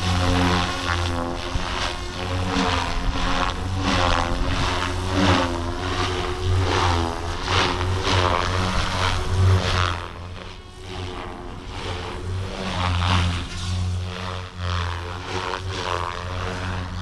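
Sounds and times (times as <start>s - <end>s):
rc helicopter rotor whine: 0.0s - 17.0s.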